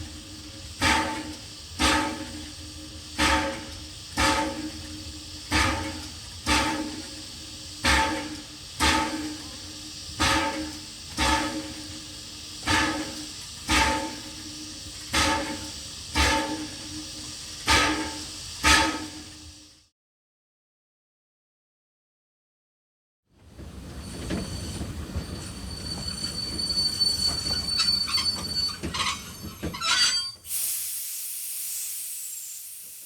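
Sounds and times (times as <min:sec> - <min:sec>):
low train hum: 0:00.0 - 0:19.9, 0:23.4 - 0:33.0.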